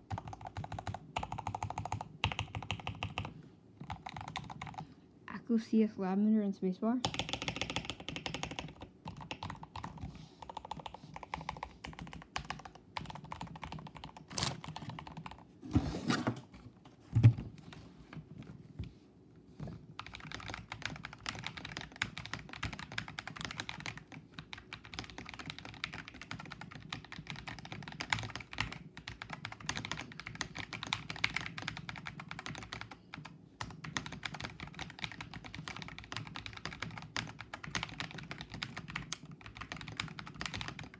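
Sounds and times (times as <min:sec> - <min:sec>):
fast typing on mechanical keyboard: 0:00.0 - 0:04.9, 0:07.0 - 0:15.4, 0:20.0 - 0:40.9.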